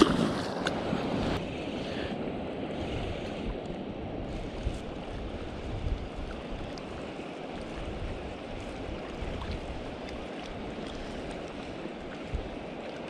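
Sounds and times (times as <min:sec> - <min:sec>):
water lapping at ice: 0:00.0 - 0:02.2, 0:02.8 - 0:13.0
wind buffeting microphone: 0:00.0 - 0:13.0.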